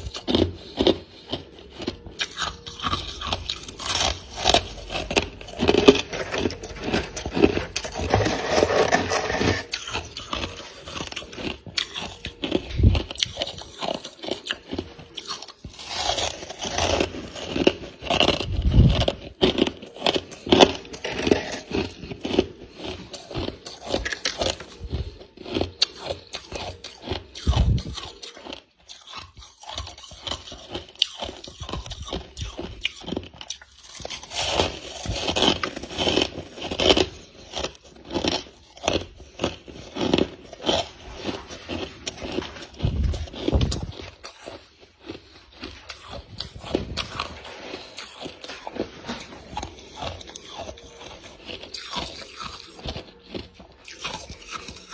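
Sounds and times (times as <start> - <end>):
chewing crunchy frost: 0.0 - 54.9.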